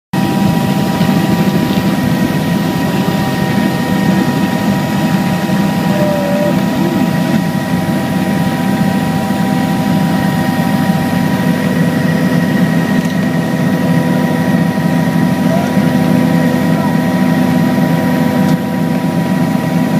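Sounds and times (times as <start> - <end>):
helicopter engine and rotor drone: 0.1 - 19.9
high turbine whine: 0.2 - 19.9.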